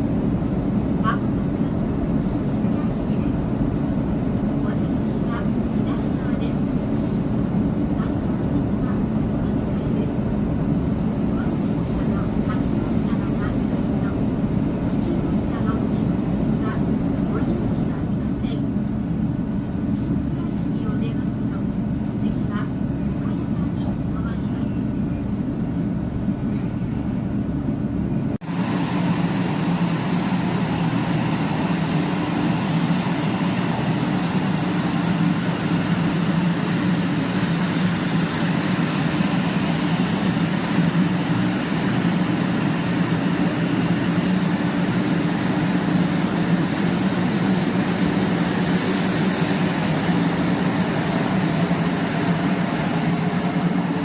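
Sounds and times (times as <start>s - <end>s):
train running noise on board: 0.0s - 54.0s.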